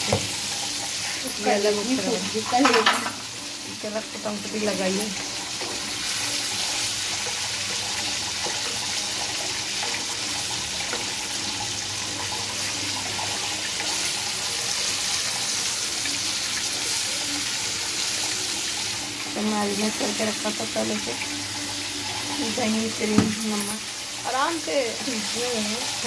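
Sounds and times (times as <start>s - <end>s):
spatula turning food: 0.0s - 23.2s
chicken frying in hot oil: 0.0s - 26.0s.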